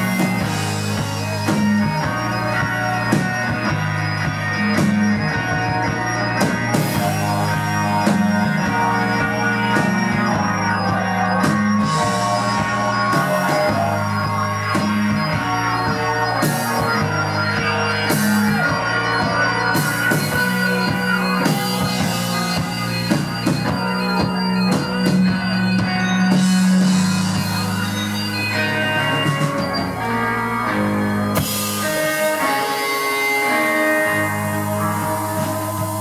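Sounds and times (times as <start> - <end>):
bass line: 0.0 - 36.0
live band playing: 0.0 - 36.0.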